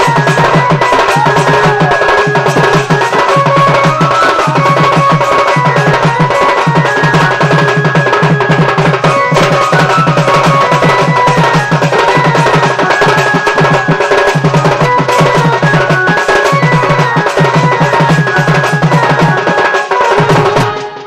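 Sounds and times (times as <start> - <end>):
barrel drum beating fast rhythm: 0.0 - 21.0
held melody line: 0.0 - 21.0.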